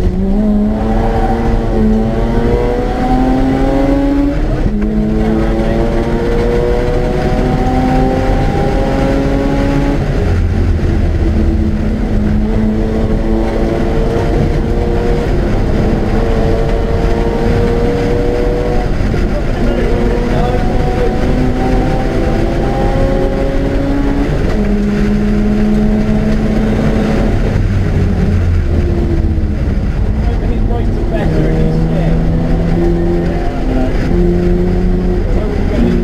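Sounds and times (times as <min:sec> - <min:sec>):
road and wind noise: 0:00.0 - 0:36.0
rotary engine accelerating: 0:00.0 - 0:36.0.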